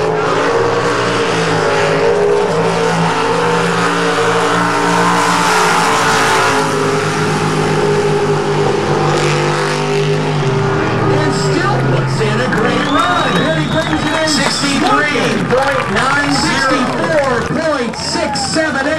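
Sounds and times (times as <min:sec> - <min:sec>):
jet boat engine running hard: 0:00.0 - 0:17.5.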